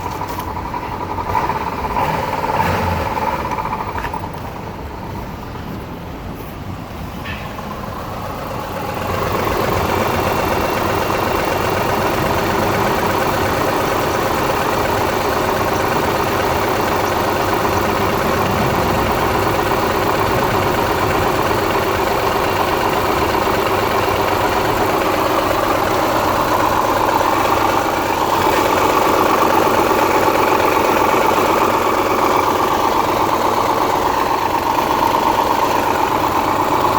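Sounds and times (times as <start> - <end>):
car engine idling with knock: 0.0 - 36.9.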